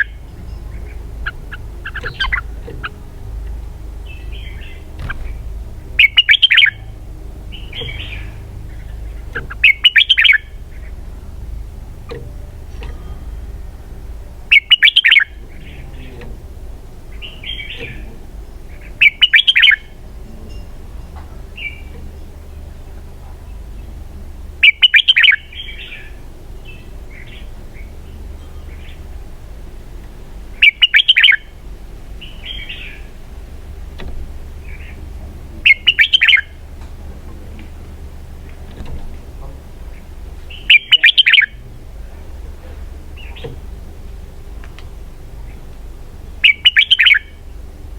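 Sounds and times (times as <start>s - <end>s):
bird warbling song: 0.0s - 47.9s
soft bird chirps: 0.0s - 47.9s.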